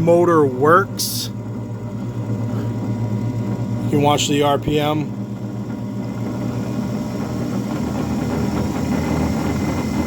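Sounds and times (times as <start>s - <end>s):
metal lathe motor humming: 0.0s - 10.0s.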